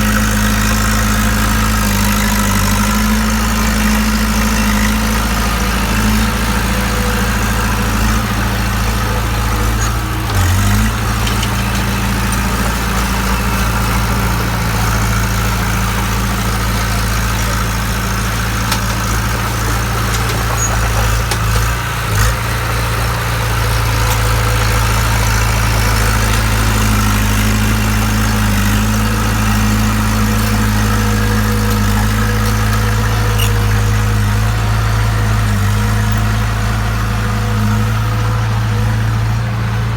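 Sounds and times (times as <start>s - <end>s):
bulldozer diesel engine idling: 0.0s - 39.9s.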